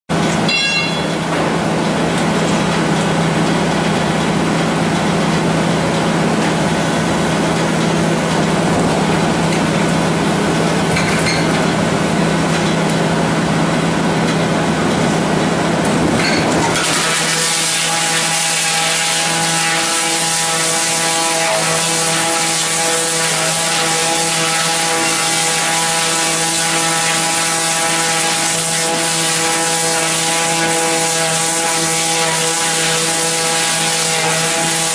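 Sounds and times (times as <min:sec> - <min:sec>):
debarking machine running: 0:00.1 - 0:34.9.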